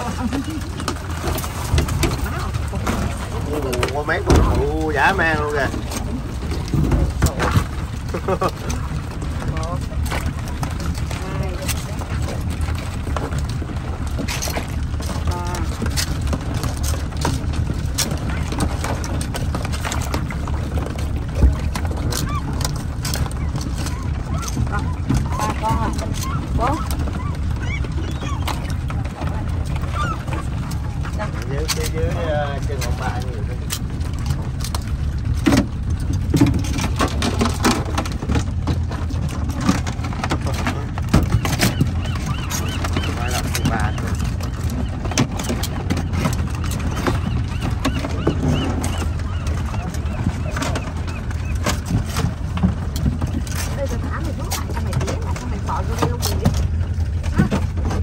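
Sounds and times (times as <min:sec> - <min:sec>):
boat motor drone: 0:00.0 - 0:58.0
steady low rumble: 0:00.0 - 0:58.0
water pouring and splashing: 0:00.0 - 0:58.0.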